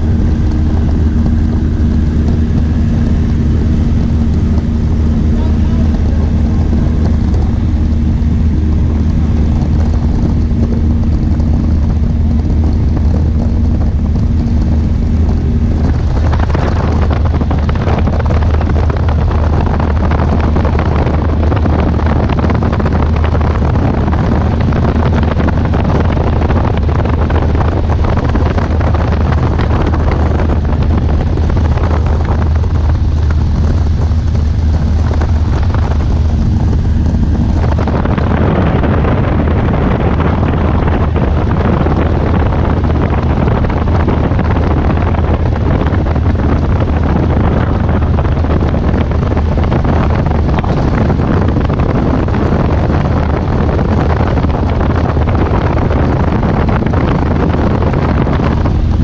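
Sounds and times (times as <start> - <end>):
loud rush of wind: 0.0 - 59.0
propeller plane engine drone: 0.0 - 59.0.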